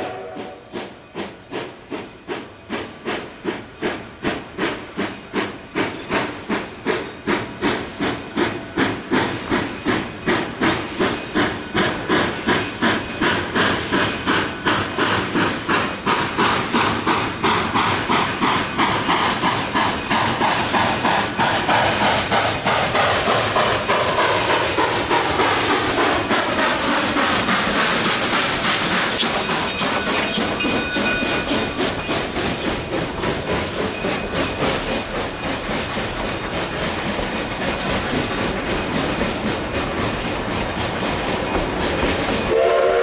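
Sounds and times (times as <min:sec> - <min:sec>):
steam hiss: 0:00.0 - 0:43.0
steam locomotive exhaust chuffing: 0:00.0 - 0:43.0.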